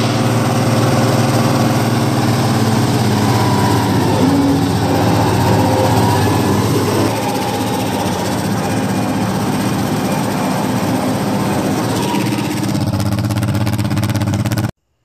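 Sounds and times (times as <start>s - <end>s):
tractor engine running: 0.0s - 14.7s.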